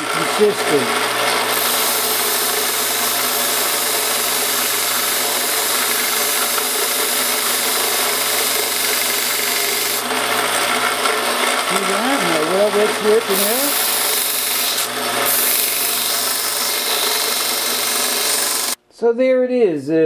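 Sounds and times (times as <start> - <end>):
power tool sanding metal: 0.0 - 18.8.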